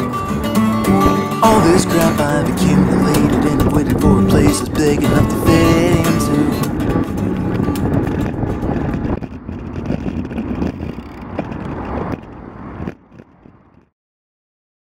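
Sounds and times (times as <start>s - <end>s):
wind rushing over microphone: 0.0s - 13.9s
road rumble: 0.0s - 14.0s.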